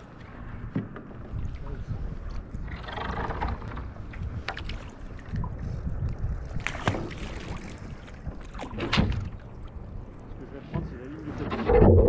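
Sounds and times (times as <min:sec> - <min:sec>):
water splashing against kayak: 0:00.0 - 0:11.9
wind rumble on microphone: 0:00.0 - 0:12.0.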